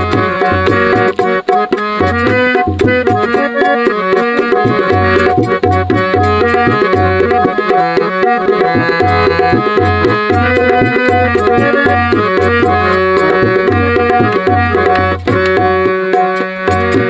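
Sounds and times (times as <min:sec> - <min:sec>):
hand drum beat: 0:00.0 - 0:17.0
harmonium melody: 0:00.0 - 0:17.0.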